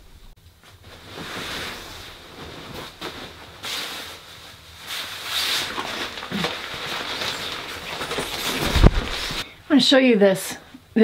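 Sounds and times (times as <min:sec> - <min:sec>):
sleeping bag fabric rustling: 0:00.6 - 0:09.5.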